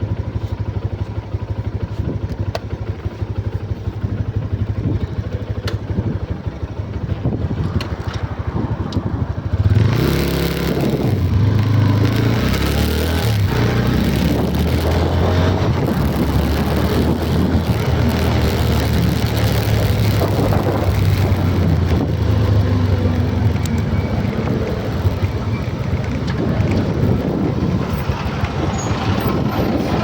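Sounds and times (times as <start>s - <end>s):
low engine hum: 0.0s - 30.0s
road and wind noise: 0.0s - 30.0s.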